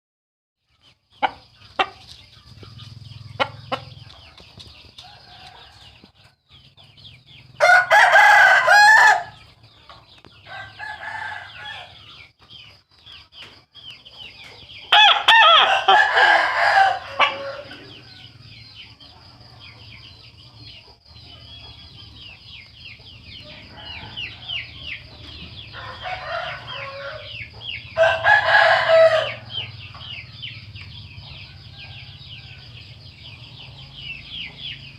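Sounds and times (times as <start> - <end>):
chickens clucking: 0.7 - 8.4, 9.3 - 34.9
roosters crowing: 1.2 - 12.7, 14.4 - 34.9.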